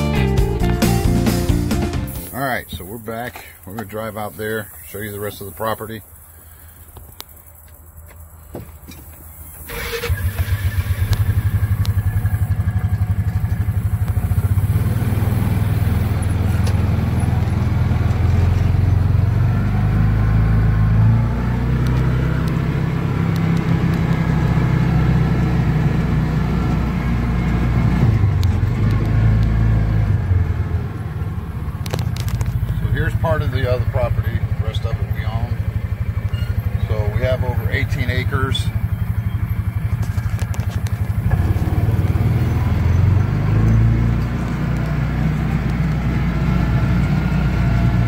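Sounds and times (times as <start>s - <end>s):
utility vehicle engine running: 0.0s - 48.0s.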